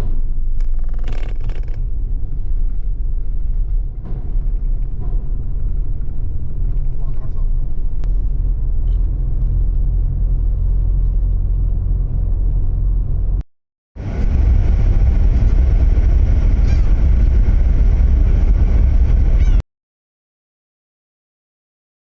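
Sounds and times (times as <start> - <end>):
car engine and road noise: 0.0 - 13.4, 14.0 - 19.6.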